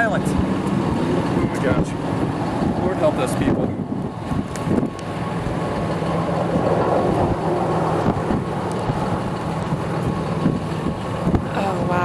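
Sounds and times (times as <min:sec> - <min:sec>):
rushing wind: 0:00.0 - 0:12.0
vehicle engine idling: 0:00.0 - 0:12.0.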